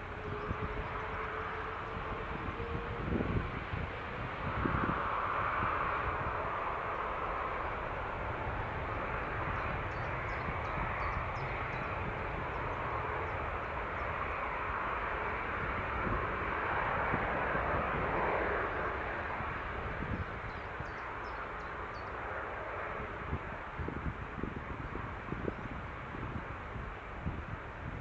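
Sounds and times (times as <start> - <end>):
jet engines rushing: 0.0 - 28.0.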